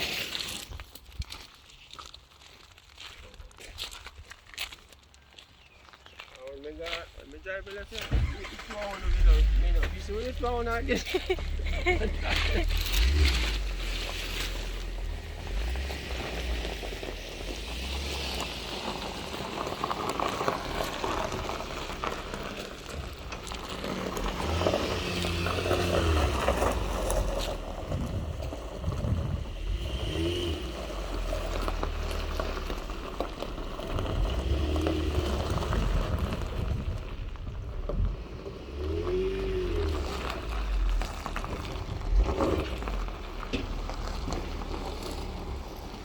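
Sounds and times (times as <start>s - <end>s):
road noise: 0.0s - 46.0s
van engine rumbling: 5.1s - 46.0s.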